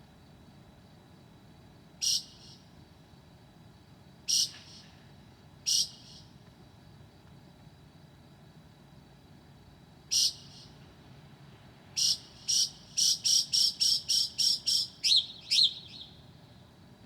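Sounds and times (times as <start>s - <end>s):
faint high hum: 0.0s - 17.0s.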